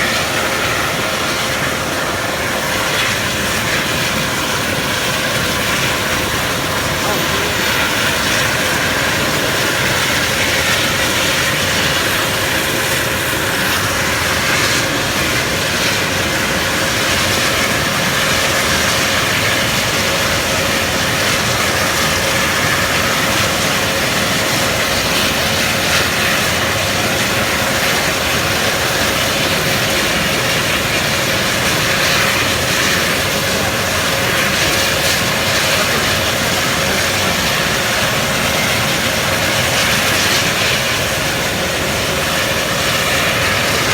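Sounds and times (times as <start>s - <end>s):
helicopter rotor rush: 0.0s - 43.9s
helicopter turbine whine: 0.0s - 43.9s.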